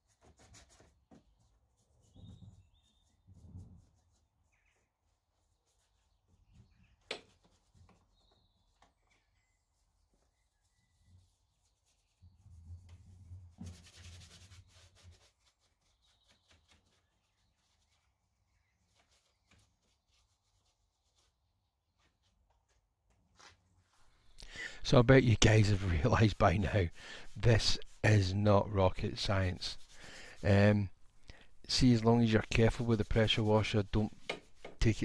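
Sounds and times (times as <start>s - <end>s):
brush scrubbing: 0.0s - 22.5s, 23.4s - 35.0s.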